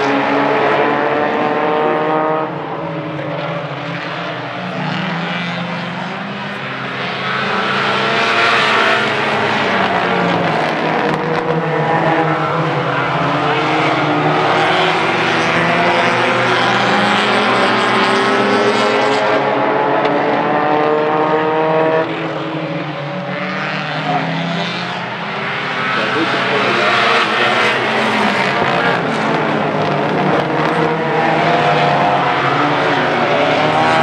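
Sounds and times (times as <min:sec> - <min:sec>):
race car engines revving: 0:00.0 - 0:34.0.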